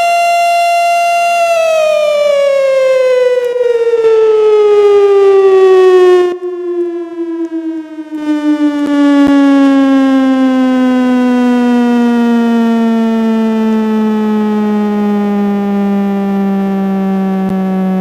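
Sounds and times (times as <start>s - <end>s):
mechanical siren winding down: 0.0s - 18.0s.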